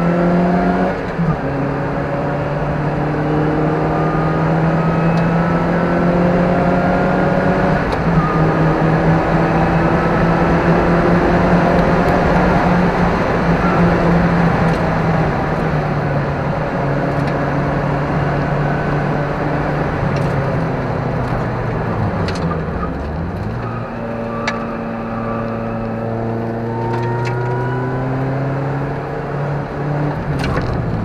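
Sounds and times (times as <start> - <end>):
car engine from inside cabin: 0.0 - 31.0
tyre and road noise: 0.0 - 31.0.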